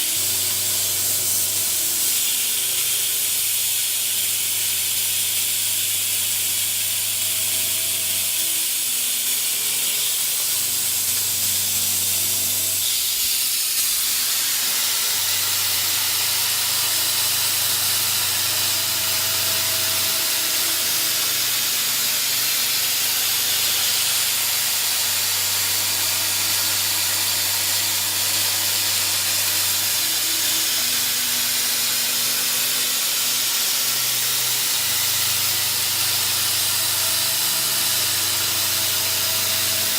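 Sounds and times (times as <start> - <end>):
loud machinery hiss: 0.0 - 39.9.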